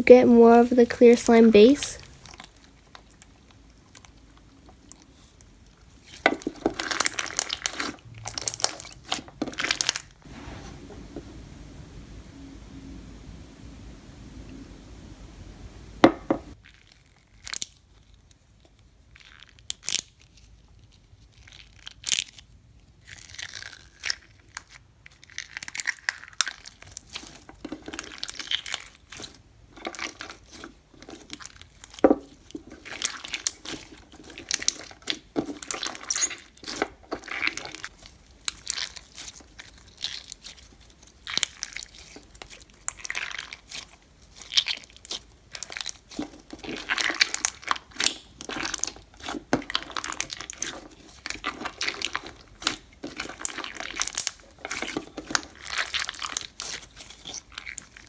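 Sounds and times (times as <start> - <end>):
slime crackling and popping: 2.0 - 10.2, 19.1 - 20.2, 20.8 - 58.0.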